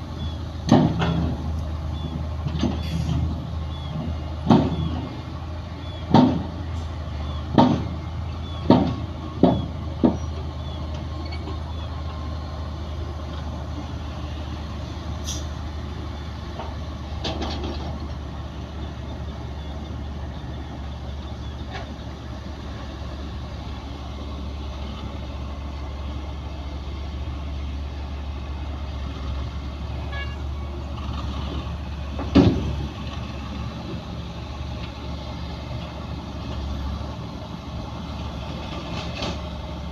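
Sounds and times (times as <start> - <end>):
heavy machinery engine drone: 0.0 - 39.9.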